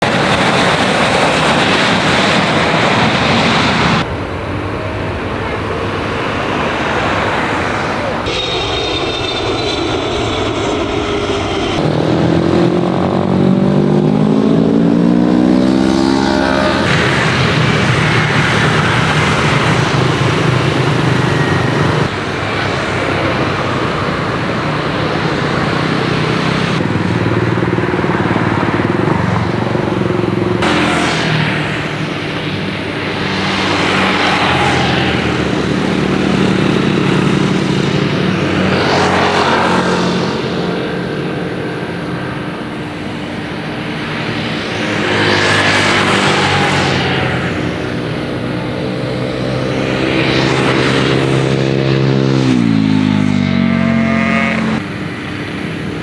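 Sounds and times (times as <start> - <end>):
motor vehicles passing by: 0.0 - 8.4, 11.7 - 56.0
steady engine hum: 0.0 - 56.0.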